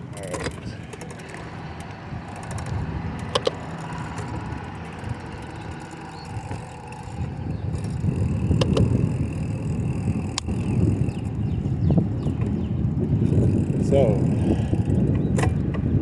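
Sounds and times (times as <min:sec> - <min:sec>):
bicycle clicks: 0:00.0 - 0:16.0
wind and road noise: 0:00.0 - 0:16.0.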